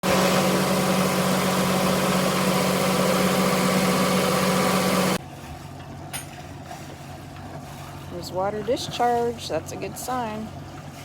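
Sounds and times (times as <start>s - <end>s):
boat generator humming: 0.0s - 11.0s.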